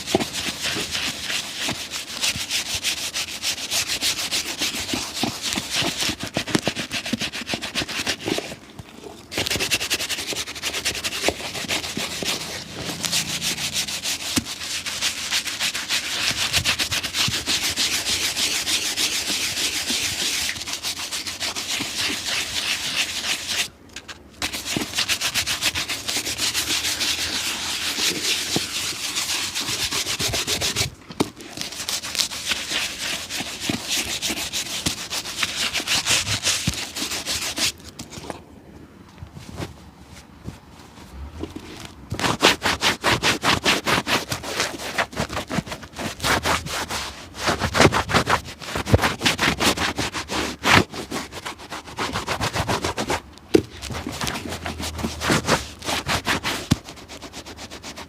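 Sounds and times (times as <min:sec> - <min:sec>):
brush scrubbing a shoe: 0:00.0 - 0:23.8, 0:24.4 - 0:37.9, 0:39.4 - 0:58.0.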